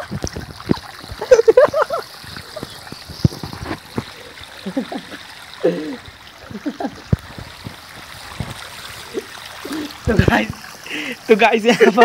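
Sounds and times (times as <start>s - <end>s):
water rushing through pipe: 0.0s - 12.0s.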